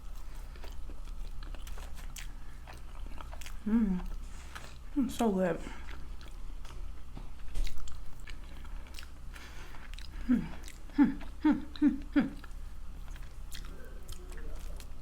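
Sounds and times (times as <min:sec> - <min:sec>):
chewing chicken wings: 0:00.0 - 0:04.9, 0:05.6 - 0:15.0.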